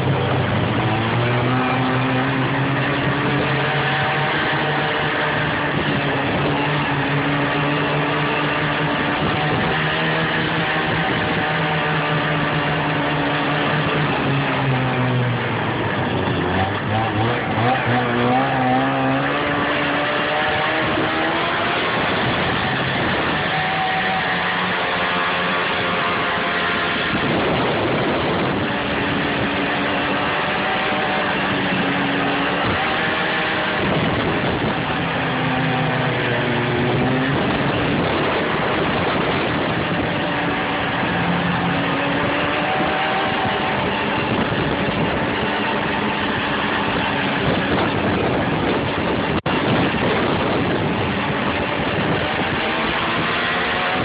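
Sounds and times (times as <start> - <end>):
snowmobile engine revving: 0.0 - 54.0
steady rushing noise: 0.0 - 54.0.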